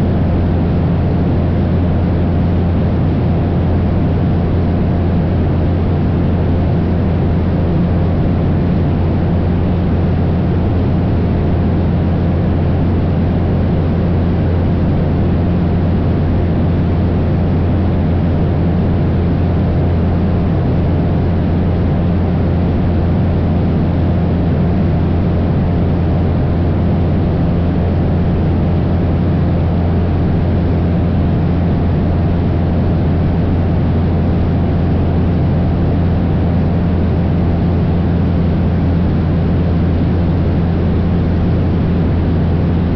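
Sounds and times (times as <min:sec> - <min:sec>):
propeller engine drone: 0:00.0 - 0:42.9.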